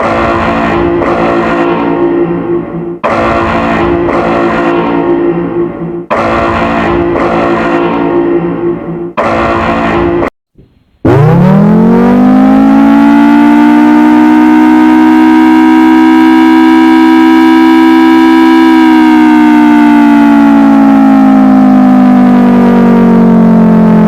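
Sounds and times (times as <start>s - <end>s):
warning siren wailing: 0.0s - 10.3s, 11.0s - 24.0s.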